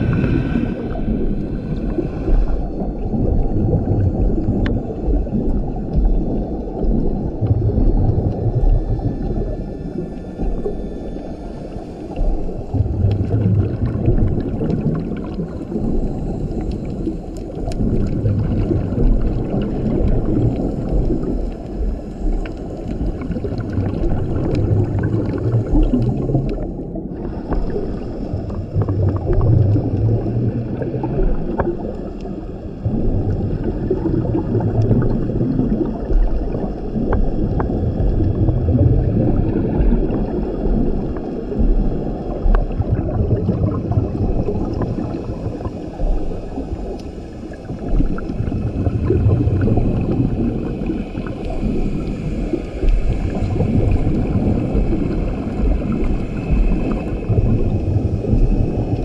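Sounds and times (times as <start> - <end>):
exhaled bubble surges: 0.0 - 59.0
underwater bubbles rumbling: 0.0 - 59.0.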